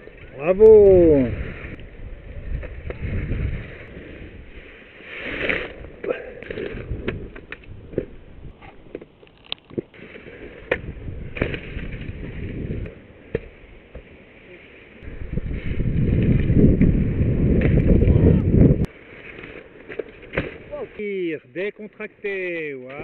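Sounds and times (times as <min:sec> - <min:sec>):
skis scraping over snow: 0:00.0 - 0:08.9, 0:10.0 - 0:23.0
skis clicking and knocking: 0:00.0 - 0:14.4, 0:15.5 - 0:18.2, 0:18.8 - 0:21.0.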